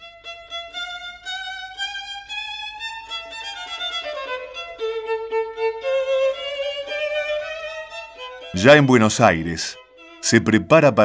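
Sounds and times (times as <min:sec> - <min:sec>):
slow violin melody: 0:00.0 - 0:11.0.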